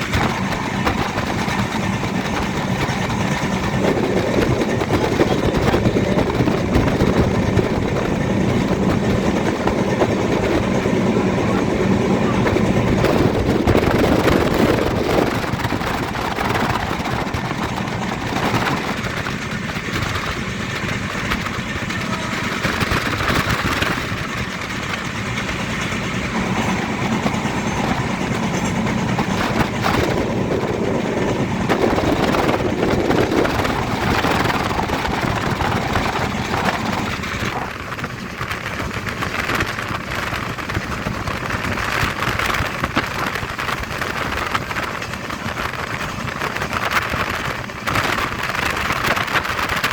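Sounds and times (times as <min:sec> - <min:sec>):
passenger train running: 0:00.0 - 0:49.9.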